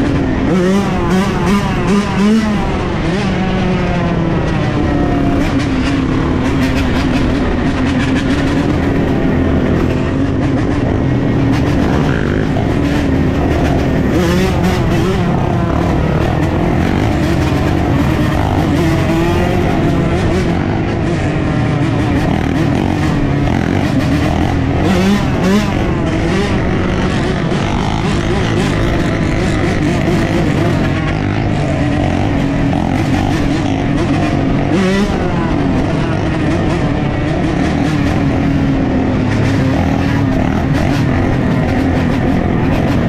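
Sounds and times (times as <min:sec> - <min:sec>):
dirt bike and atv engines revving: 0:00.0 - 0:43.0.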